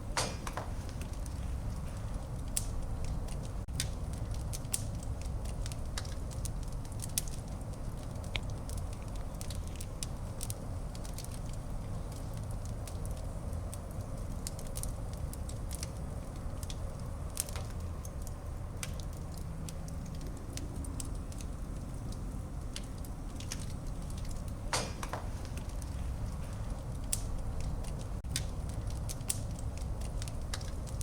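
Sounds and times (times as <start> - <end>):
fire crackling in fireplace: 0.0 - 31.0.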